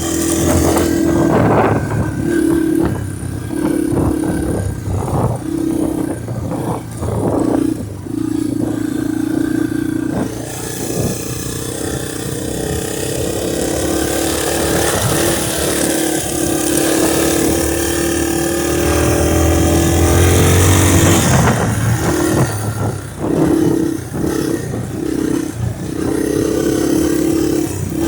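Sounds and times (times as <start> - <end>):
vehicle engine revving: 0.0 - 28.0
wind noise on microphone: 0.0 - 28.0.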